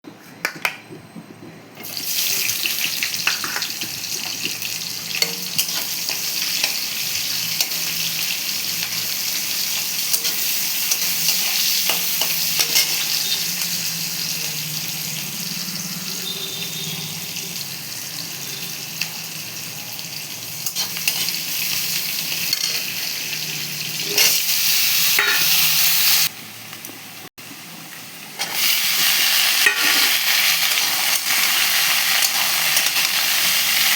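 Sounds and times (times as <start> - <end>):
food sizzling in hot oil: 1.8 - 33.9.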